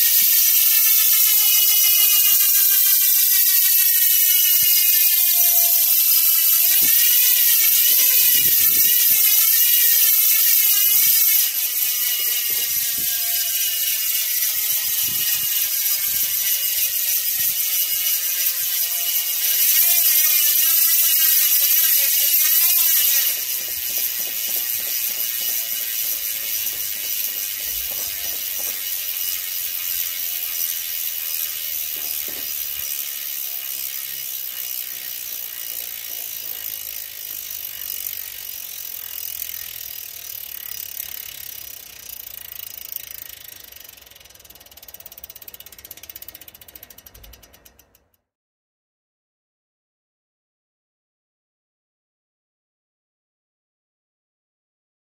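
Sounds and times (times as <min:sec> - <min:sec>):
bicycle freehub buzzing: 0:00.0 - 0:48.2.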